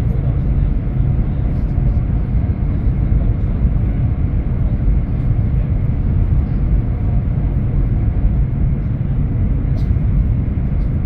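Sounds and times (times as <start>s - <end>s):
high-speed train rumble: 0.0s - 11.0s.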